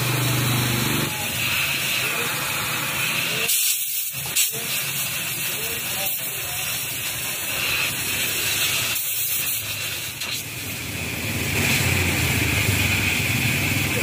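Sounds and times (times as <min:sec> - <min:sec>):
welding torch flame hissing: 0:00.0 - 0:14.0.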